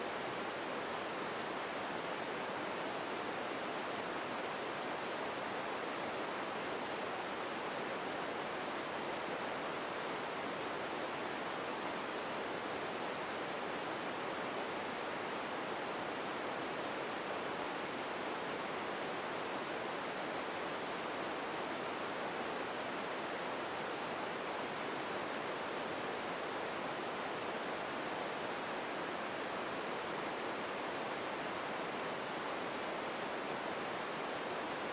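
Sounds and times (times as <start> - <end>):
soft room hiss: 0.0 - 34.9.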